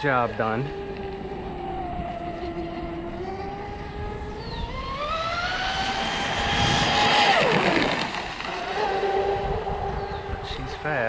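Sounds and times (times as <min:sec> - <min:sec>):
rc boat motor whine: 0:00.0 - 0:11.0.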